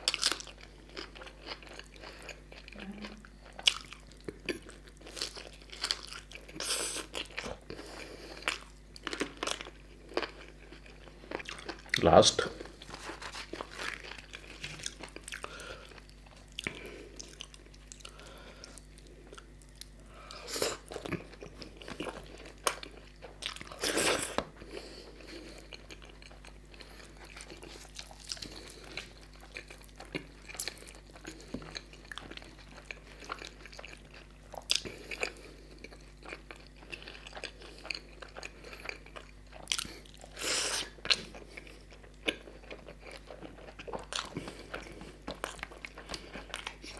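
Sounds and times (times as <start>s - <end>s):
close chewing and wet mouth sounds: 0.0s - 46.9s.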